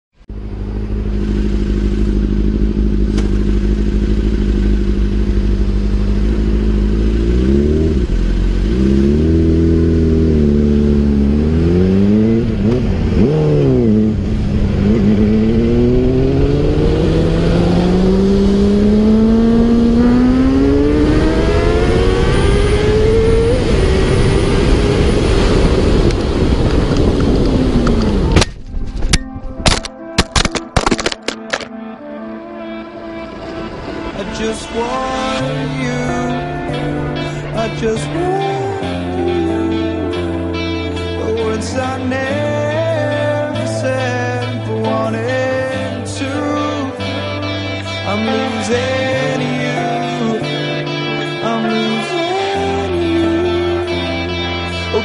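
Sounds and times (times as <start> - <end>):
motorcycle engine revving: 0.2 - 29.1, 32.8 - 50.5.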